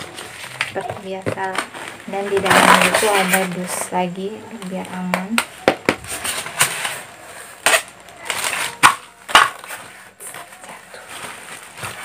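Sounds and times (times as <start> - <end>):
plastic wrapping rustling and crunching: 0.0 - 12.0.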